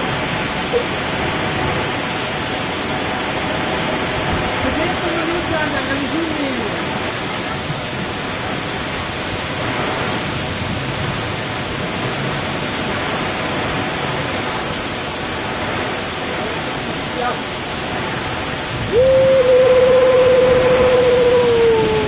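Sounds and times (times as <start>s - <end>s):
heavy rain downpour: 0.0s - 22.0s
strong wind gusts: 0.0s - 22.0s.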